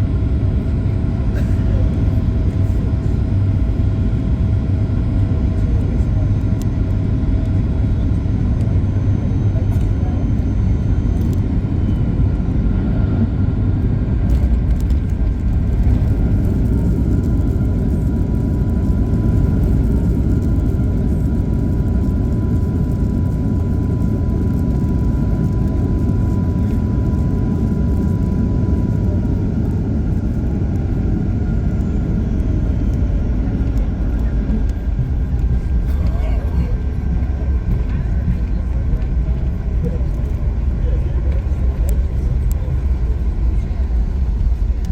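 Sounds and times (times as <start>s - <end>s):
aircraft cabin low rumble: 0.0s - 44.9s.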